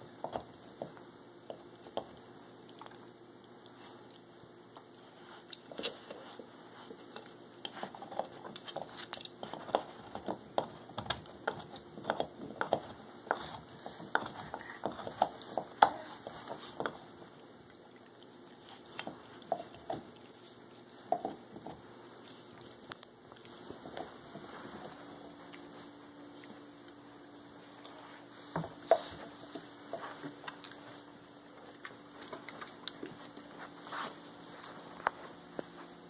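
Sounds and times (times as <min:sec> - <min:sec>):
dog gnawing chew toy: 0:00.2 - 0:27.0, 0:28.8 - 0:35.3.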